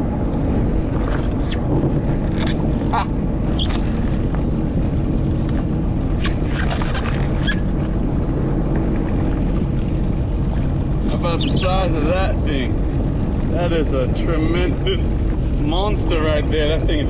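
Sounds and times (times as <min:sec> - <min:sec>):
jet ski engine running: 0:00.0 - 0:17.0
water splashing against hull: 0:00.0 - 0:17.0.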